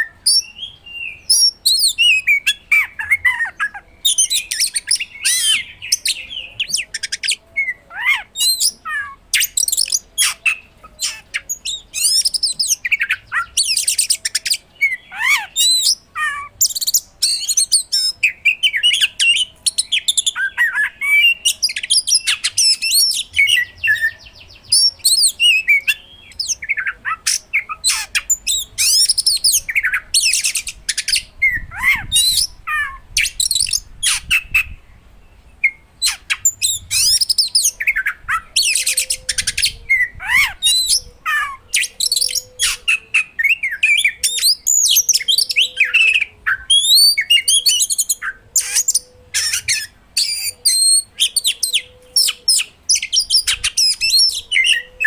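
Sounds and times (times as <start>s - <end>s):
songbird whistling and trilling: 0.0s - 34.8s, 35.6s - 55.0s.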